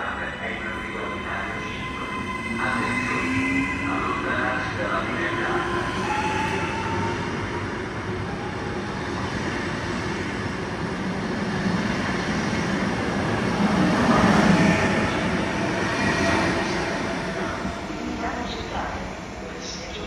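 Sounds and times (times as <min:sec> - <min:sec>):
passenger train running: 0:00.0 - 0:20.0.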